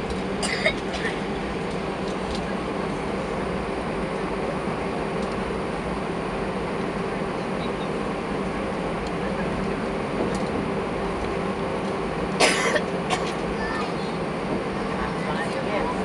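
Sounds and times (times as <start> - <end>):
aircraft engines taxiing: 0.0 - 16.0
cabin ventilation hum: 0.0 - 16.0.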